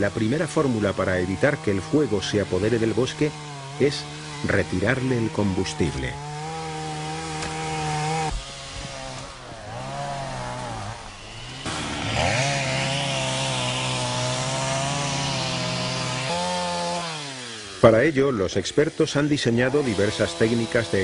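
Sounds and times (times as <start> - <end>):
hissing cutting noise: 0.0 - 21.0
two-stroke engine revving: 0.0 - 21.0.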